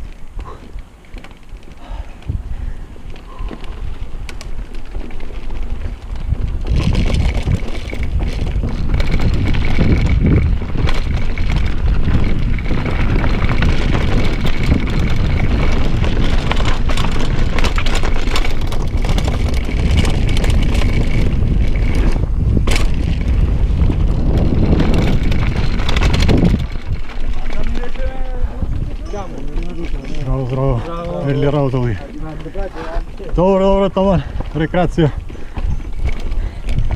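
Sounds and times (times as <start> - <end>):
bike tyre and trail noise: 0.0 - 36.9
wind buffeting microphone: 0.0 - 36.9.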